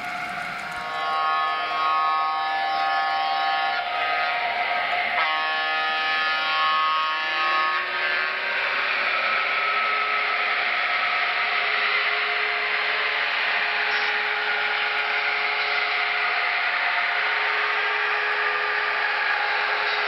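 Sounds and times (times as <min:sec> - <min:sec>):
model train air horn: 0:00.0 - 0:20.0.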